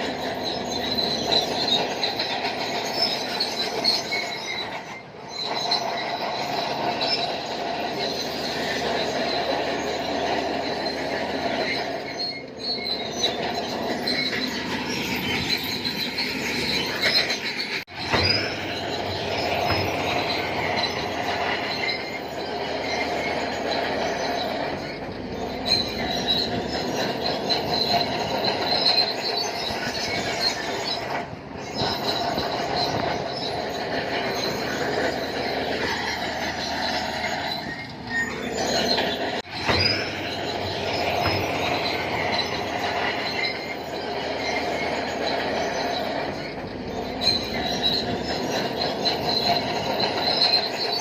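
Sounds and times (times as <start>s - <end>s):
bulldozer engine running: 0.0s - 51.0s
steel tracks squealing and clanking: 0.0s - 51.0s.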